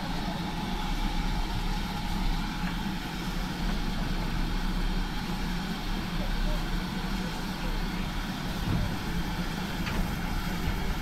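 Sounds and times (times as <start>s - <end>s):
steam train rumbling and hissing: 0.0s - 11.0s.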